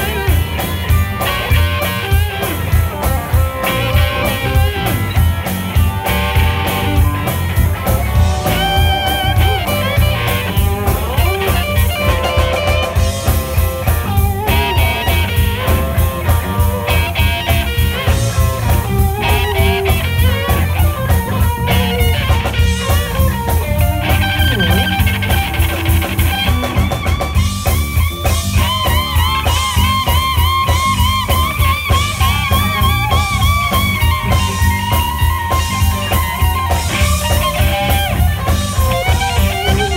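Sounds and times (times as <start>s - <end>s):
bass guitar: 0.0s - 39.9s
drum kit: 0.0s - 39.9s
electric guitar lead with bent notes: 0.0s - 39.9s.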